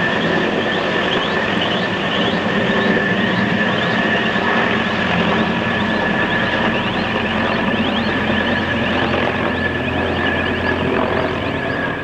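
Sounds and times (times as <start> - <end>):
helicopter flying overhead: 0.0 - 12.0
high turbine whine: 0.0 - 12.0.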